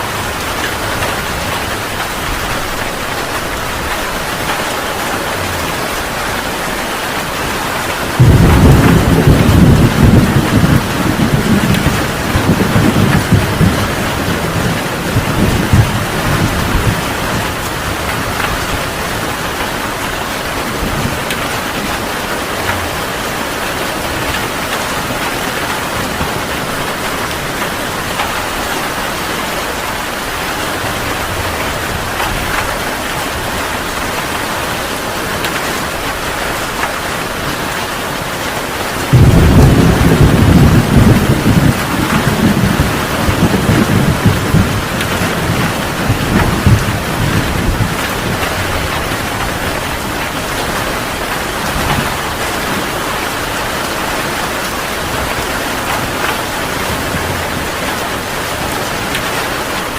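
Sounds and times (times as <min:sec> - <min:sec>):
heavy rain: 0:00.0 - 0:59.9
thunder rumbling: 0:00.1 - 0:37.8, 0:38.6 - 0:59.9.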